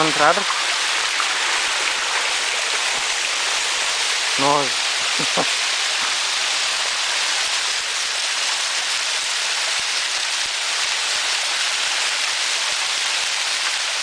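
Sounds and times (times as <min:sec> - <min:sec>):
rush of flowing water: 0:00.0 - 0:14.0.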